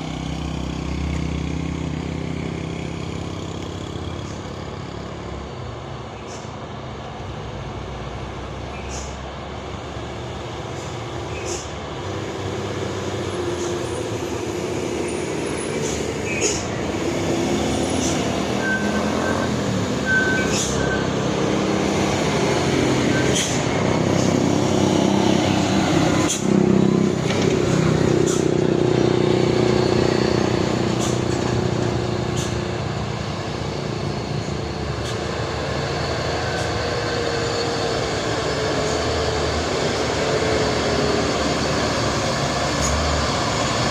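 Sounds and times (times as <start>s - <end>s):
diesel truck engine under load: 0.0s - 43.9s.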